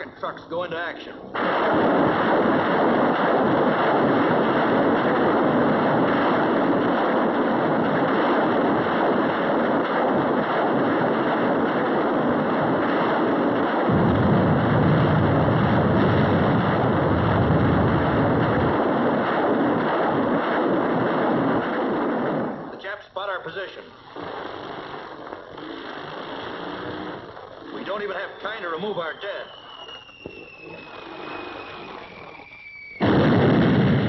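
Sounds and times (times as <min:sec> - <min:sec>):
rocket launchers firing: 0:00.0 - 0:34.0.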